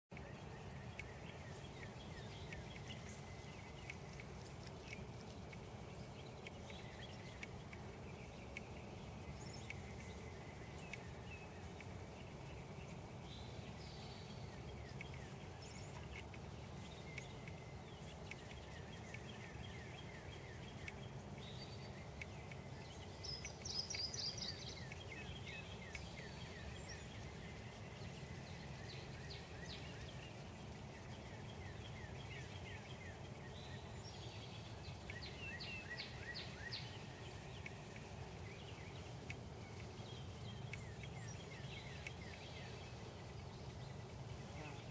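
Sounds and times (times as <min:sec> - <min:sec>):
birds chirping: 0:00.1 - 0:44.9
outdoor background hum: 0:00.1 - 0:44.9.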